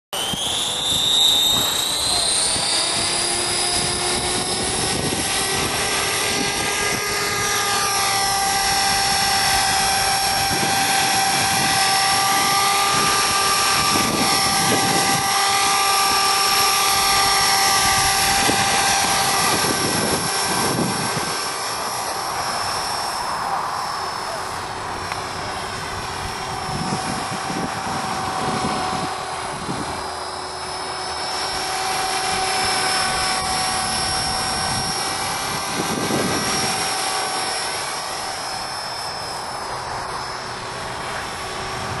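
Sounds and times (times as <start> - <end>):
electric motor high whine: 0.2 - 42.0
rotor blades whirring: 0.2 - 42.0.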